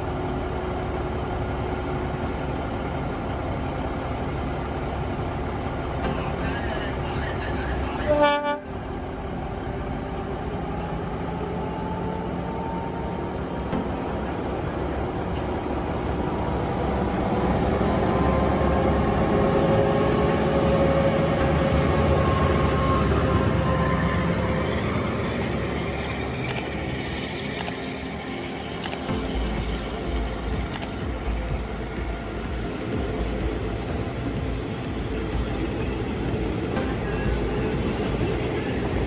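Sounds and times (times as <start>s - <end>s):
train running on rails: 0.0s - 39.0s.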